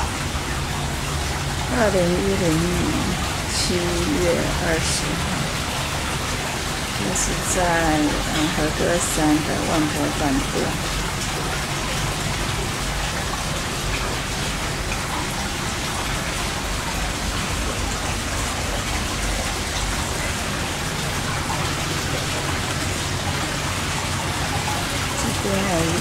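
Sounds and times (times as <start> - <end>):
water pouring into rock bath: 0.0 - 26.0.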